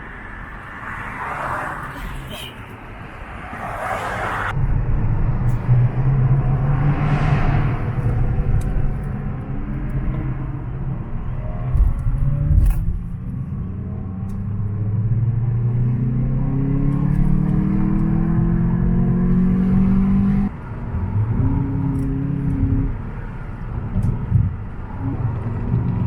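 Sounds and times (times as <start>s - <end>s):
car engine droning: 3.3s - 26.0s.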